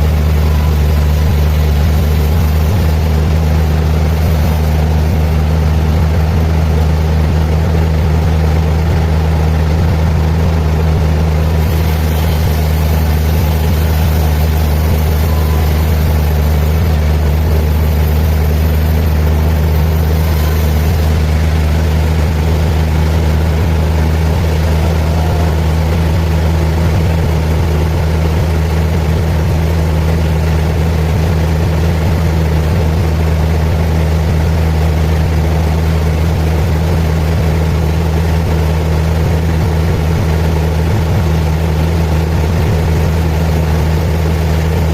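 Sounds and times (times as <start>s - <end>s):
sawmill machinery drone: 0.0s - 44.9s.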